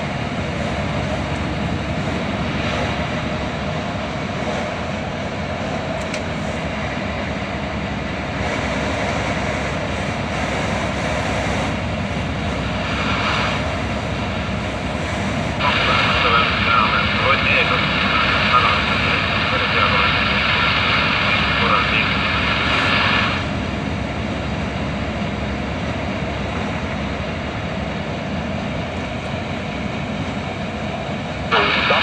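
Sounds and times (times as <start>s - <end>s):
road noise: 0.0s - 32.0s
vehicle engine drone: 0.0s - 32.0s.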